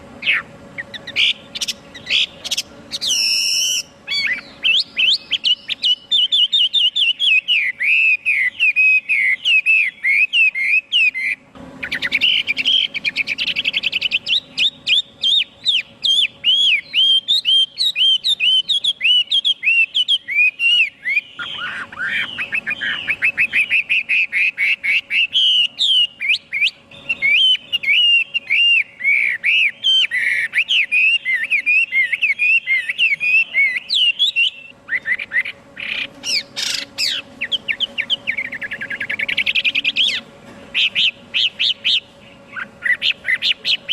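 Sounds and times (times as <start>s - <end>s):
bird singing whistled notes: 0.2s - 43.9s.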